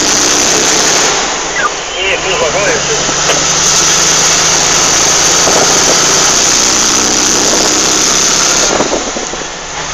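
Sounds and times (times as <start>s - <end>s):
diesel truck engine drone: 0.0s - 9.9s.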